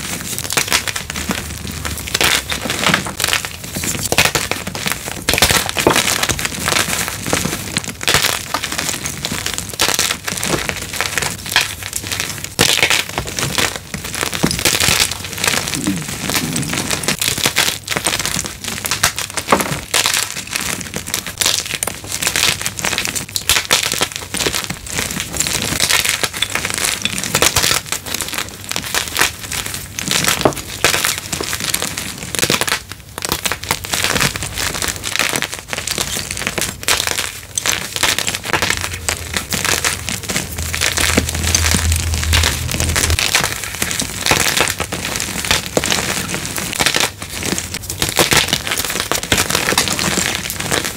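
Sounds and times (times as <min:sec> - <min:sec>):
chalk blocks crunching: 0:00.0 - 0:50.9.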